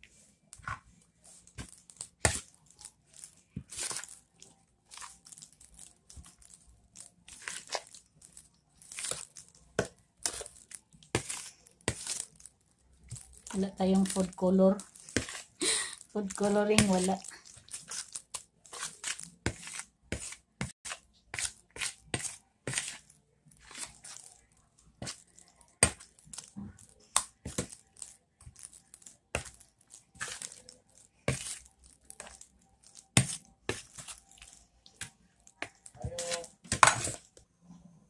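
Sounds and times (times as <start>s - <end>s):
hand kneading wet meat: 0.0s - 37.4s
spoon scraping mixture in bowl: 0.5s - 15.6s, 16.2s - 37.4s.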